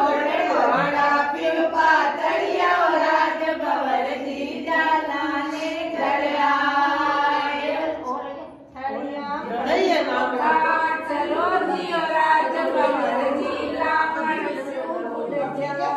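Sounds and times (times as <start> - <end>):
women singing in unison: 0.0 - 8.1, 8.7 - 15.9.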